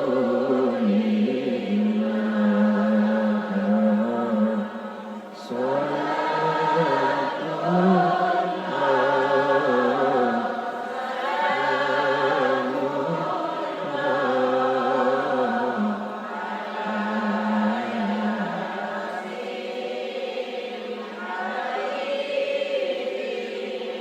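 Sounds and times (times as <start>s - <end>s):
group of voices singing: 0.0s - 24.0s.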